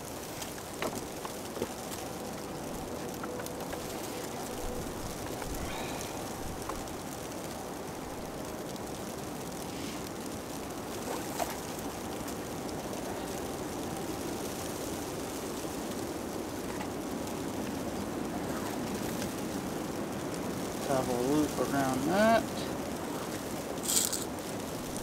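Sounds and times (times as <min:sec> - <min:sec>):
wind buffeting microphone: 0:00.0 - 0:20.8.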